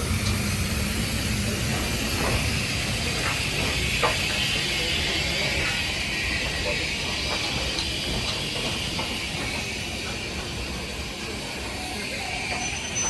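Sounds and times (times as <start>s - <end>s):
hiss of escaping steam: 0.0s - 13.0s.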